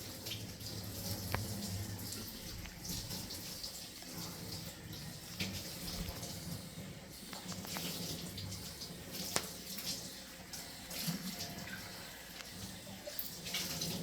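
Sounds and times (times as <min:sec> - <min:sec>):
faucet running into a sink: 0:00.0 - 0:14.0.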